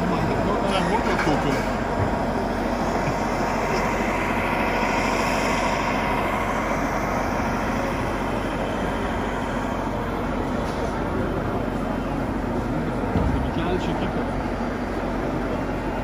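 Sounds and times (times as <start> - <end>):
busy exhibition hall noise: 0.0 - 16.0
model excavator mechanical drone: 0.0 - 16.0.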